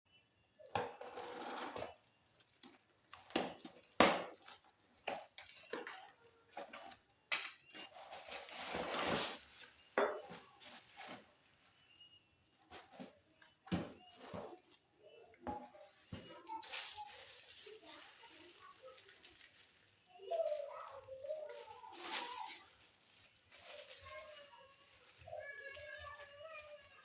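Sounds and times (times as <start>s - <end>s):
packaging rustling: 1.1s - 14.6s, 15.7s - 27.0s.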